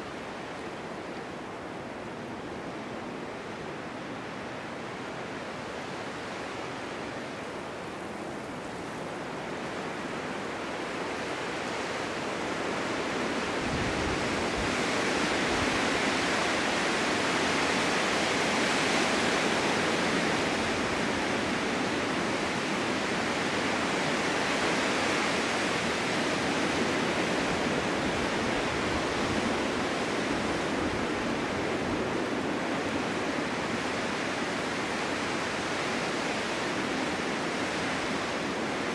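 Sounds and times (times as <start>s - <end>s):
strong wind through forest: 0.0s - 38.9s.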